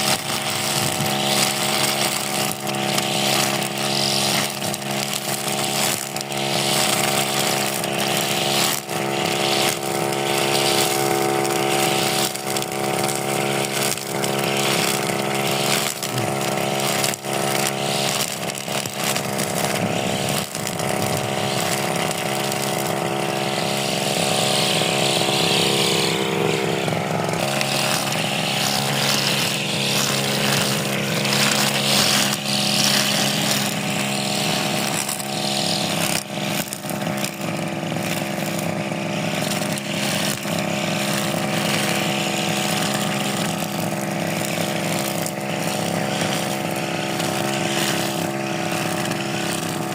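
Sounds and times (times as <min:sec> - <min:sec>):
grass cutter engine running: 0:00.0 - 0:49.9.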